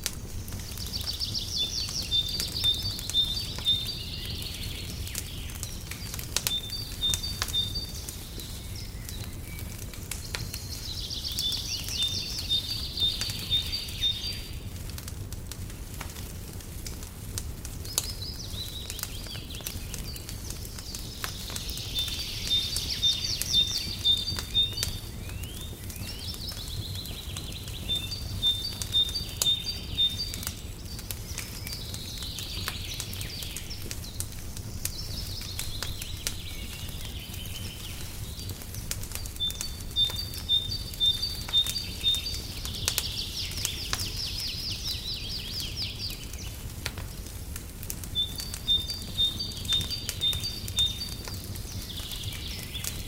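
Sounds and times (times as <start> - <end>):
songbirds singing: 0.0 - 53.0
wood fire crackling: 0.0 - 53.0.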